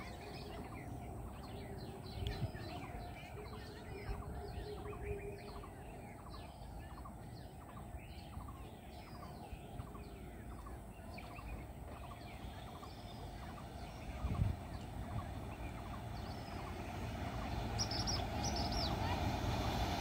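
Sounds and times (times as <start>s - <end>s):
birds chirping: 0.0s - 19.2s.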